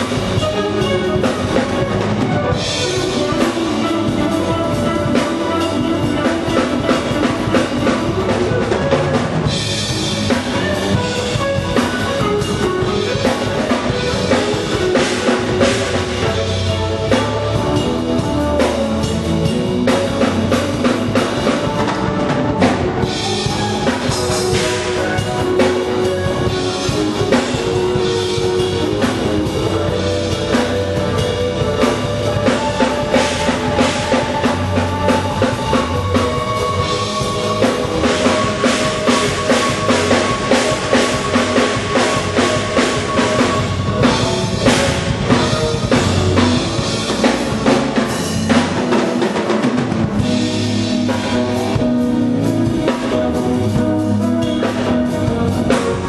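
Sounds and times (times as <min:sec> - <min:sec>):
drum kit rock groove: 0:00.0 - 0:56.0
music with sustained chords: 0:00.0 - 0:56.0.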